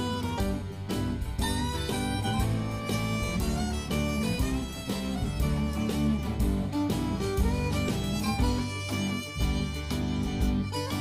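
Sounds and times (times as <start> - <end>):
fiddle: 0.0 - 11.0
guitar: 0.0 - 11.0.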